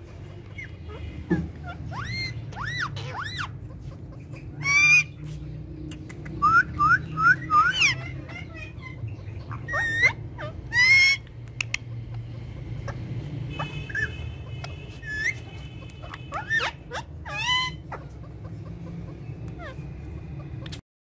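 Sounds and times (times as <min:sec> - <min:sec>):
parakeet chirps: 0:00.0 - 0:20.8
parakeets squawking: 0:00.0 - 0:20.8.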